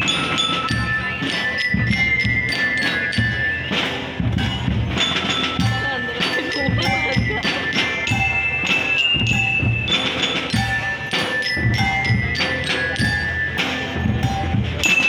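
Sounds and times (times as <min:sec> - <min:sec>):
bass drum: 0:00.0 - 0:15.0
bell lyres melody: 0:00.0 - 0:15.0
cymbals: 0:00.0 - 0:15.0
snare drums: 0:00.0 - 0:15.0.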